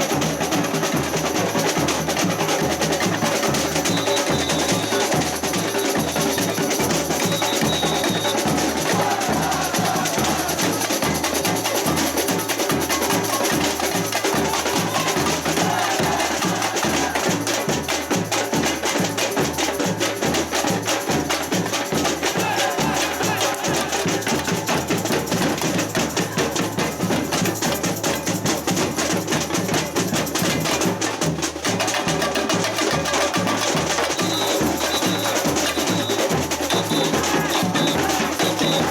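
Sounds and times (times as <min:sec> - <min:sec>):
fast snare and small percussion: 0:00.0 - 0:38.9.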